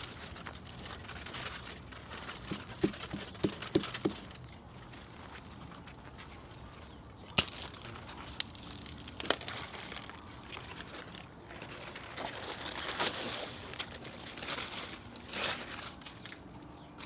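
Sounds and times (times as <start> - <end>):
rustling and crunching of plants: 0.0 - 17.0.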